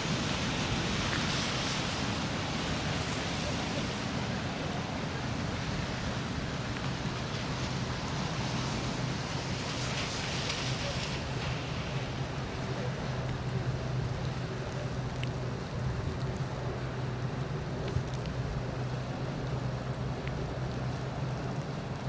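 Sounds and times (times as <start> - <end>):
road traffic hum and hiss: 0.0 - 22.0.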